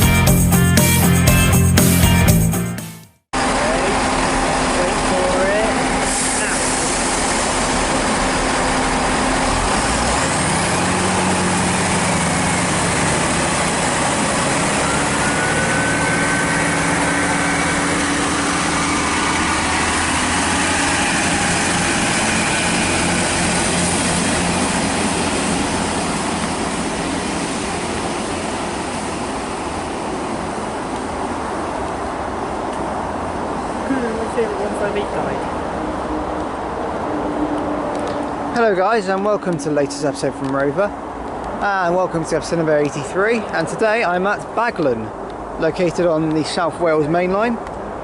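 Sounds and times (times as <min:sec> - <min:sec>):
train engines revving: 0:03.4 - 0:48.0.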